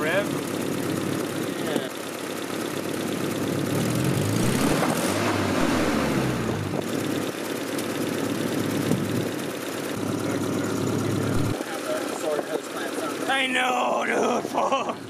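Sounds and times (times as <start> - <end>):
car engine idling and revving: 0.0 - 14.6.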